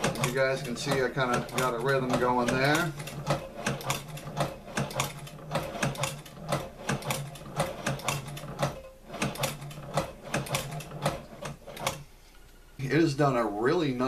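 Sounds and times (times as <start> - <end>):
sewing machine clicking: 0.0 - 12.1.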